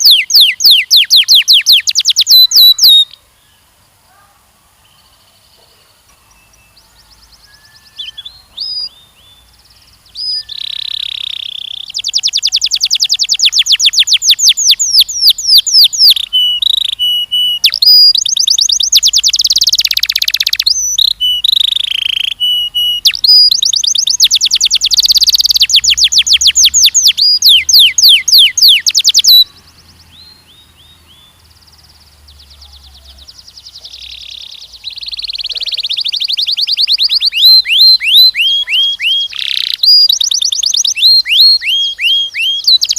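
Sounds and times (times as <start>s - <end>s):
canary trilling: 0.0s - 3.2s, 6.7s - 9.5s, 10.1s - 31.2s, 32.6s - 42.9s.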